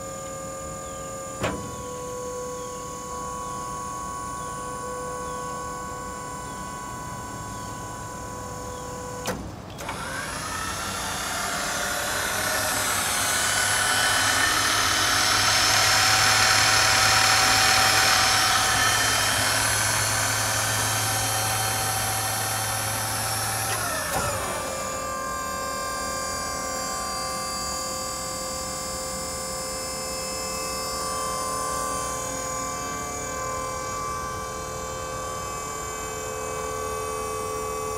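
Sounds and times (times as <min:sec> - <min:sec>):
crane pump motor running: 0:00.0 - 0:37.9
mechanical hum with whine: 0:00.0 - 0:37.9.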